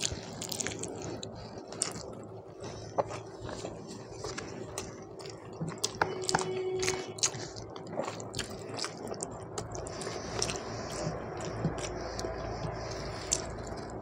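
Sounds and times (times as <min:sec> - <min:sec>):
chewing with wet mouth clicks: 0:00.0 - 0:14.0
fingers squishing rice: 0:00.0 - 0:14.0.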